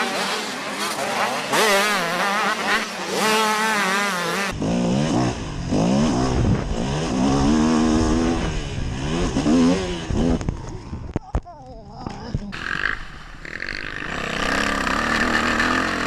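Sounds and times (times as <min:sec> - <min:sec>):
motocross bike engines revving: 0:00.0 - 0:11.1, 0:12.0 - 0:16.0.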